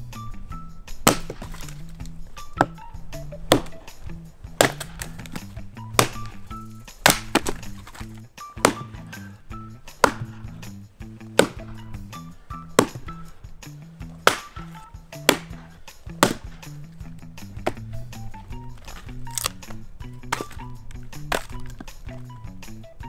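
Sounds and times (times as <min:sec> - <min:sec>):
background music: 0:00.0 - 0:23.0
axe splitting firewood: 0:00.5 - 0:22.9.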